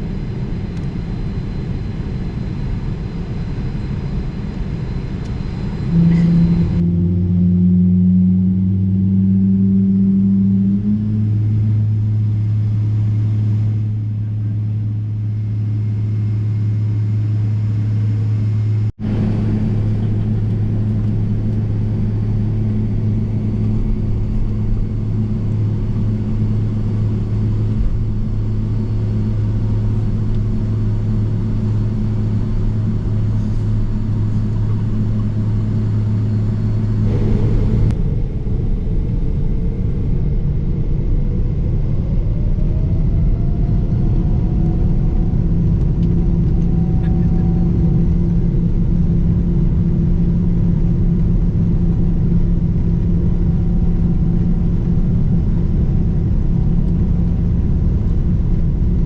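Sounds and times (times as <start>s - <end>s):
jet engines whining: 0.0s - 50.8s
aircraft cabin hum: 3.5s - 7.3s, 10.8s - 59.0s.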